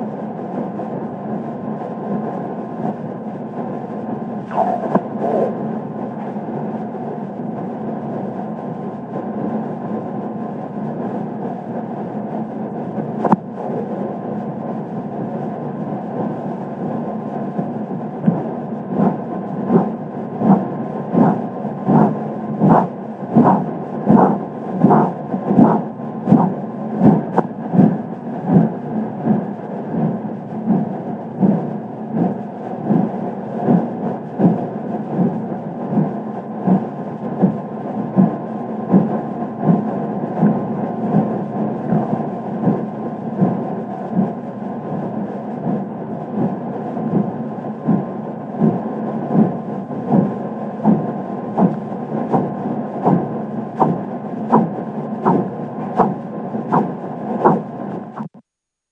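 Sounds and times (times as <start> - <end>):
dull pulse thumps: 4.4 - 8.7, 12.3 - 58.5.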